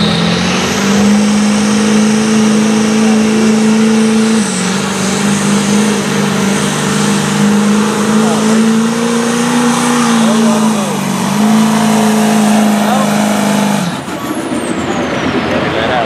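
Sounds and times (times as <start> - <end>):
diesel truck engine at high revs: 0.0 - 16.0.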